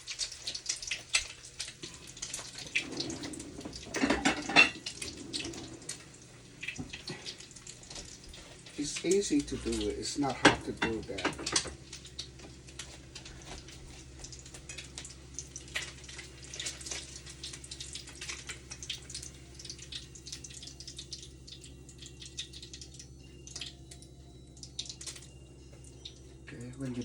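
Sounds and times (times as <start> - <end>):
constant low hum: 0.0 - 27.0
food sizzling in a pan: 0.0 - 27.0
oil crackling and popping: 0.0 - 27.0.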